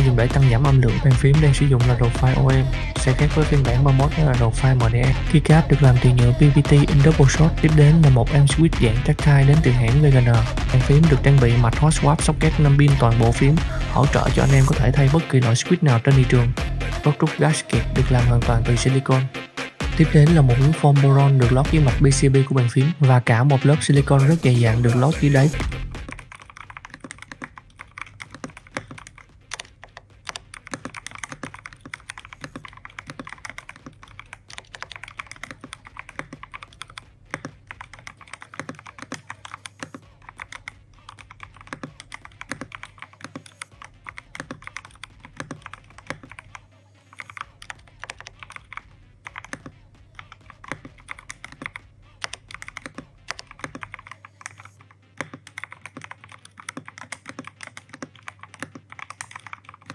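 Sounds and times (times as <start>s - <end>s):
fast typing on mechanical keyboard: 0.0s - 16.5s, 24.1s - 59.9s.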